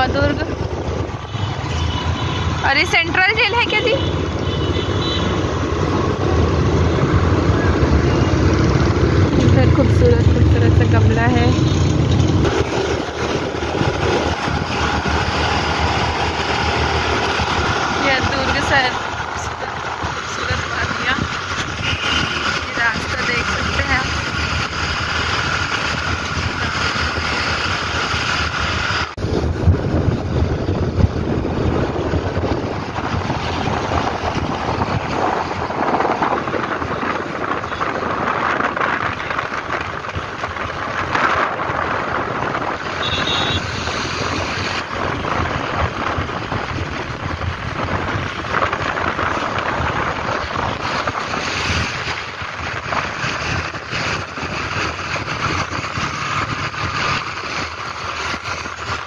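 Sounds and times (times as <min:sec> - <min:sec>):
road and traffic noise: 0:00.0 - 0:59.0
wind rushing over microphone: 0:00.0 - 0:59.0.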